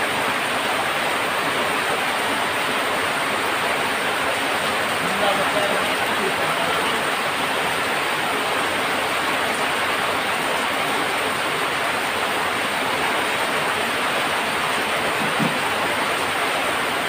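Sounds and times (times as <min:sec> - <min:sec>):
heavy rain on a tin roof: 0:00.0 - 0:17.0
water pouring off eaves: 0:00.0 - 0:17.0.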